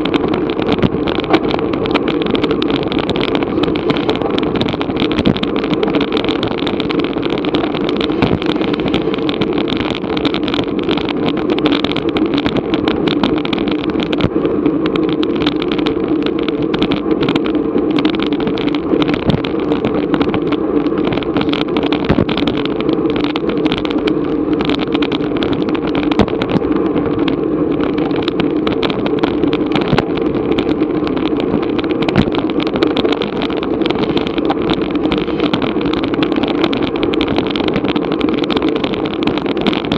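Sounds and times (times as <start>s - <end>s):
small clicks: 0.0s - 39.9s
wind buffeting microphone: 0.0s - 39.9s.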